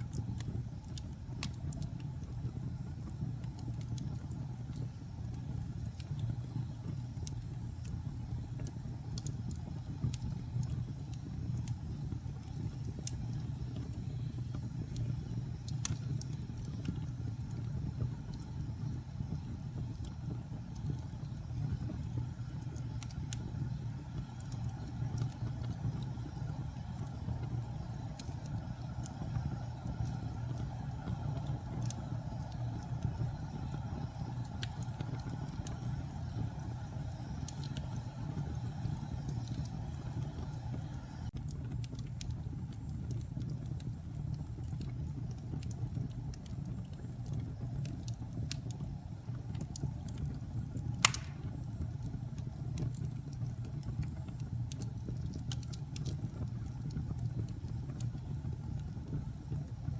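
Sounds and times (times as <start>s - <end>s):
fire crackling and popping: 0.0s - 59.9s
fire flames rumbling: 0.0s - 59.9s.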